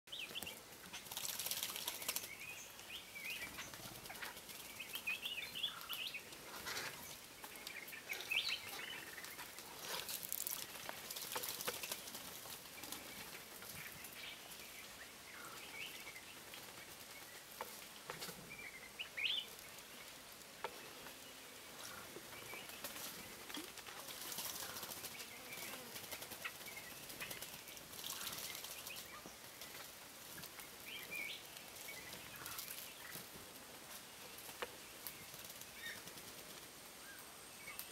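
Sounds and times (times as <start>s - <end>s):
birds splashing and fluttering: 0.1s - 36.8s.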